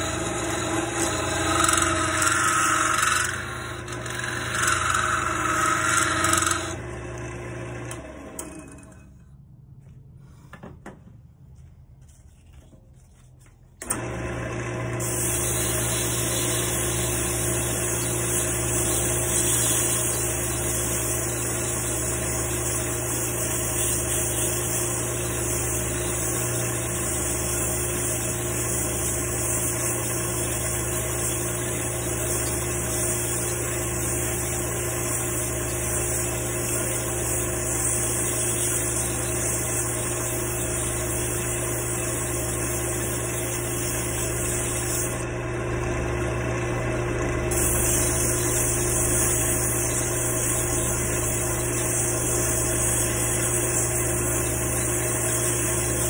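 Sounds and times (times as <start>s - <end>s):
wood lathe motor humming: 0.0s - 9.0s, 13.8s - 56.0s.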